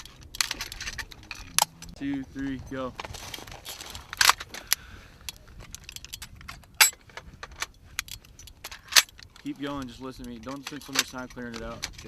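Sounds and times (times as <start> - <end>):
metal gun parts clicking and clanking: 0.0 - 12.0.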